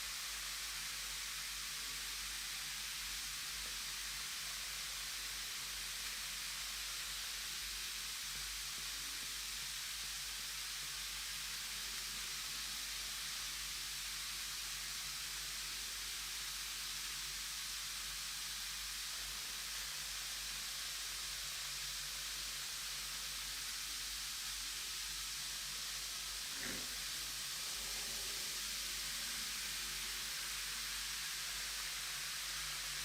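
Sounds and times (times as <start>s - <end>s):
bath bomb fizzing in water: 2.4s - 33.0s.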